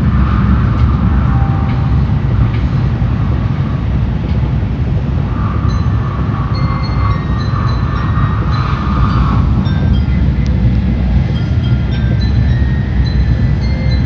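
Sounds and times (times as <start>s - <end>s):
faint train whine: 0.0s - 14.0s
train low rumble: 0.0s - 14.0s.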